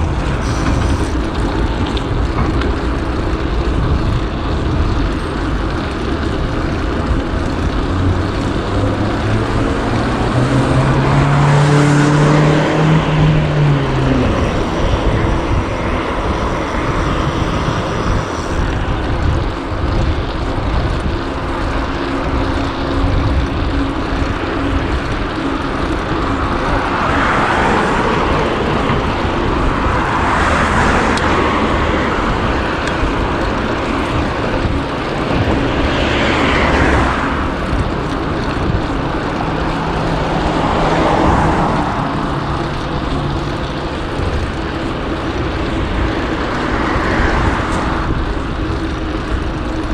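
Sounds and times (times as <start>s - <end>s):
engine climbing in pitch: 0.0s - 49.9s
motor vehicles passing: 0.0s - 49.9s
steady road noise: 0.0s - 49.9s.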